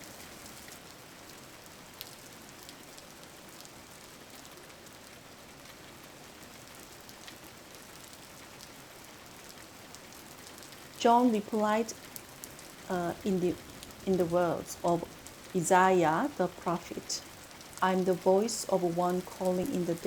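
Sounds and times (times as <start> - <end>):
rain falling on a surface: 0.0 - 20.0.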